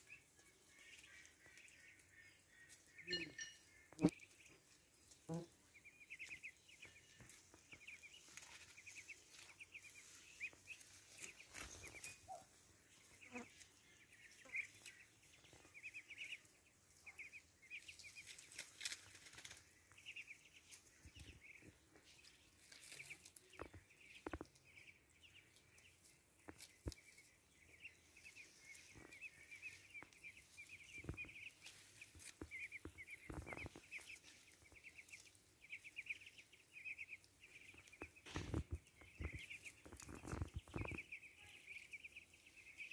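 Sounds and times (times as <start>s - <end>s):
ducklings peeping: 0.0s - 42.9s.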